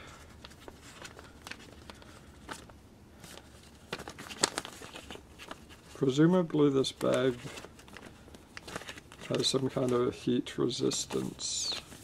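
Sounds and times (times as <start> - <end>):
plastic bag crinkling: 0.3 - 12.0.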